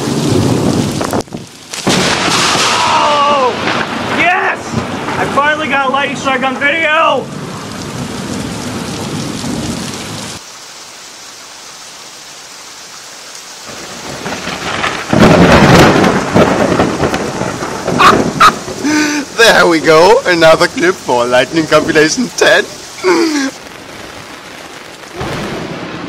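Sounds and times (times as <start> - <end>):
thunder rumble with cracks: 0.0 - 10.4, 13.7 - 26.0
rain hiss: 0.0 - 26.0.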